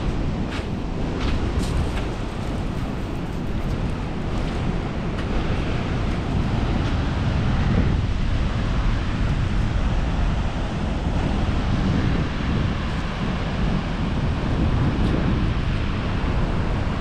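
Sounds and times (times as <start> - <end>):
ocean surf breaking: 0.0 - 17.0
wind rushing over microphone: 0.0 - 17.0.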